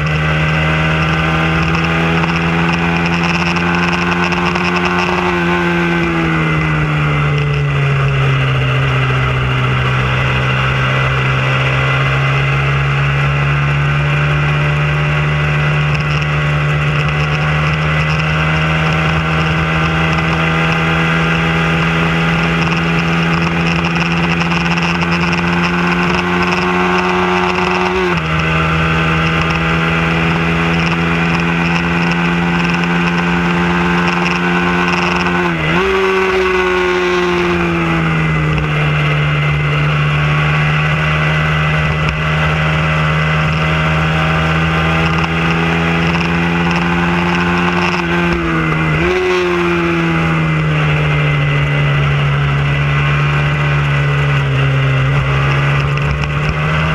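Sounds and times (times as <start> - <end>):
motorcycle engine at high revs: 0.0 - 56.9.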